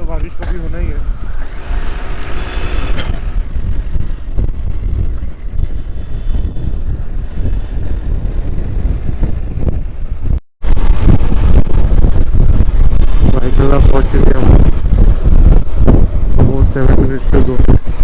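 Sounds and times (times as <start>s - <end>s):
motorcycle rumble: 0.0s - 18.0s
wind buffeting microphone: 0.0s - 18.0s.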